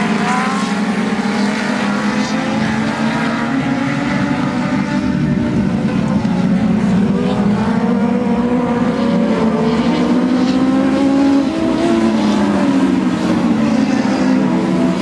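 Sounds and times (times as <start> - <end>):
race car engines at racing speed: 0.0 - 15.0.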